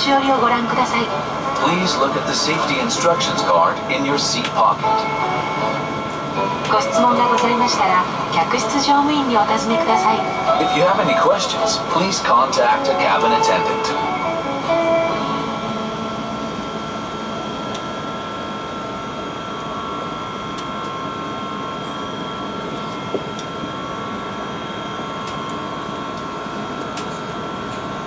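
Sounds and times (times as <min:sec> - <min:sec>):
jet engines idling hum and whine: 0:00.0 - 0:28.0.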